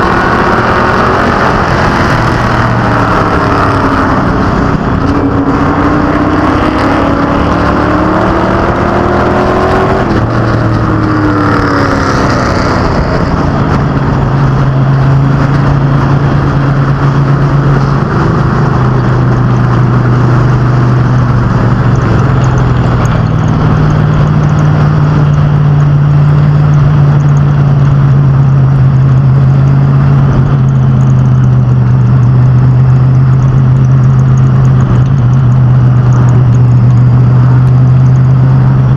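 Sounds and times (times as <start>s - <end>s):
racing engines droning: 0.0s - 38.9s.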